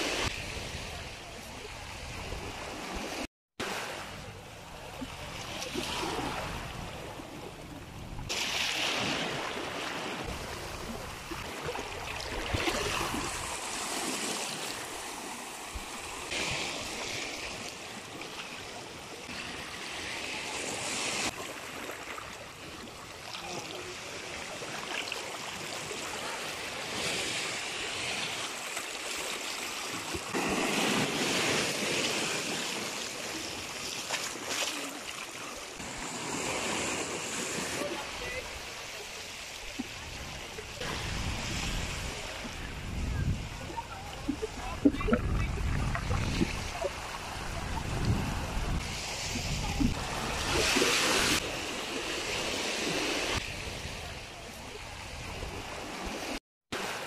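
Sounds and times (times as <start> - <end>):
sea waves washing over rocks: 1.9 - 57.0.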